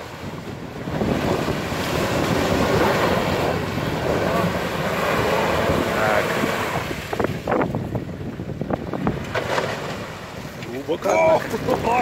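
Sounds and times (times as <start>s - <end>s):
water sloshing and splashing: 0.0s - 12.0s
wind buffeting microphone: 0.0s - 12.0s.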